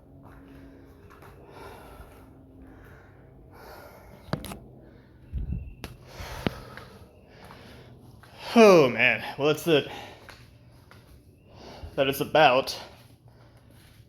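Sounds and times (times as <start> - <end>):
man breathing hard: 0.0 - 12.0, 12.7 - 14.0.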